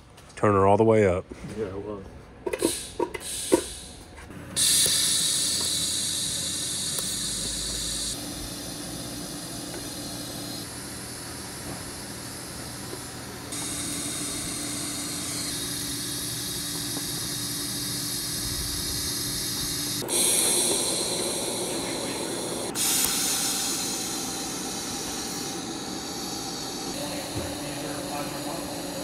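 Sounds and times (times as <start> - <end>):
welding arc hissing: 2.6 - 29.0.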